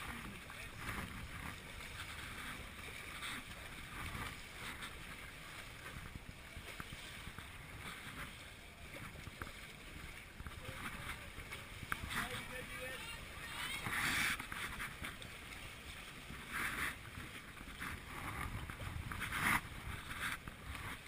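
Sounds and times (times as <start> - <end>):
wind rumble on microphone: 0.0 - 12.4, 16.2 - 21.0
water slapping wooden hull: 0.0 - 21.0.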